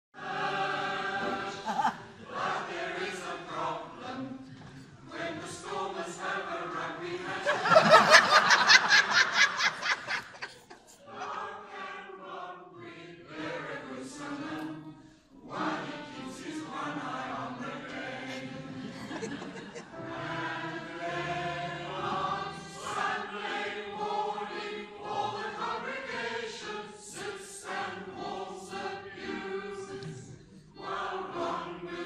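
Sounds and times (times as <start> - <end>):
choir singing: 0.2 - 32.0.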